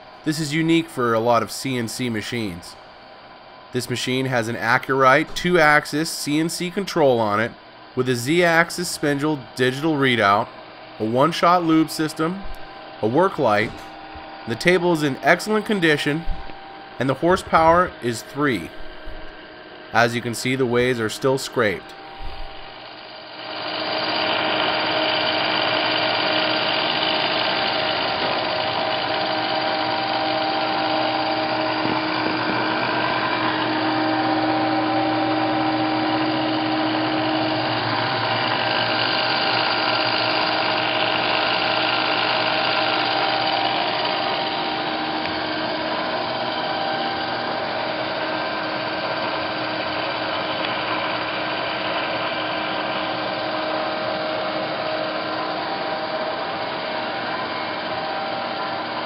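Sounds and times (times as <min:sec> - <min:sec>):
milling machine motor whining: 0:00.0 - 0:59.0.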